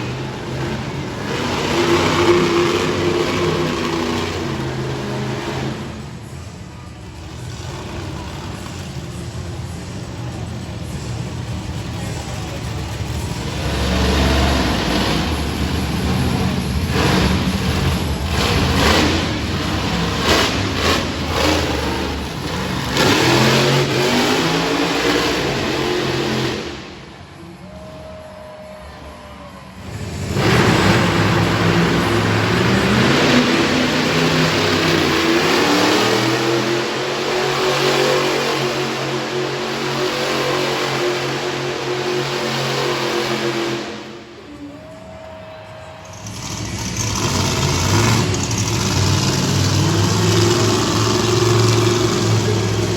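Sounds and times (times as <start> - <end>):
truck engine revving: 0.0 - 28.0, 28.9 - 44.8, 45.4 - 52.9.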